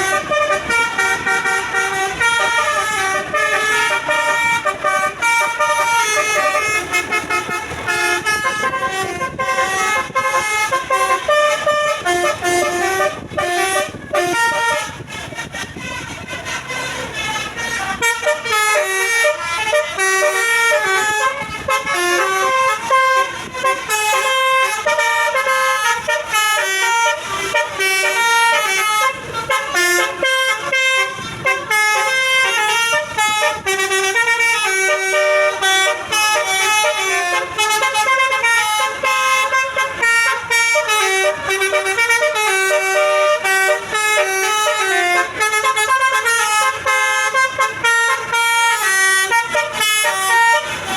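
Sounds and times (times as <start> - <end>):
bus air horns playing melody: 0.0 - 50.9.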